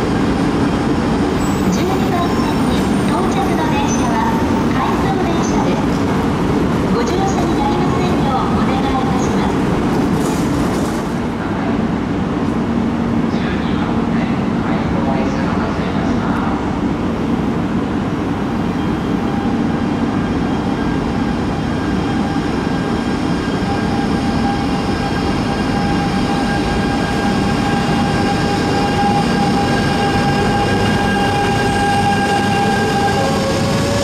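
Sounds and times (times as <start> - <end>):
train rumble: 0.0 - 34.0.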